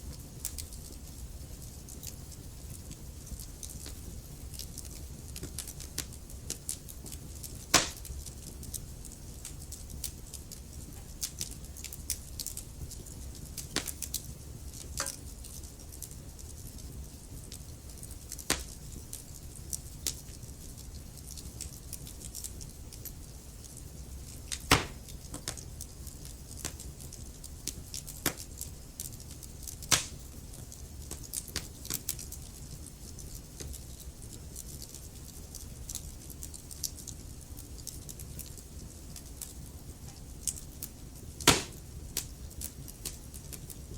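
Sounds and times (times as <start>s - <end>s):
fire popping: 0.0s - 43.9s
wood fire crackling: 0.0s - 43.9s.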